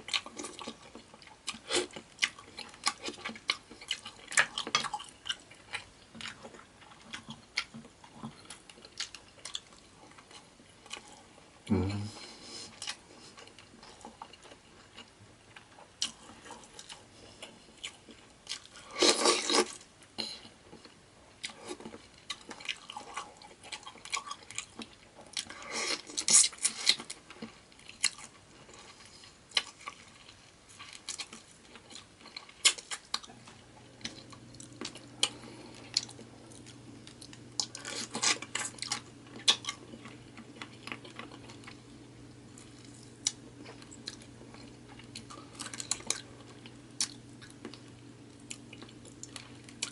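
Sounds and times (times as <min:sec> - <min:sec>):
chewing: 0:00.0 - 0:49.9
steady low hum: 0:00.0 - 0:49.9.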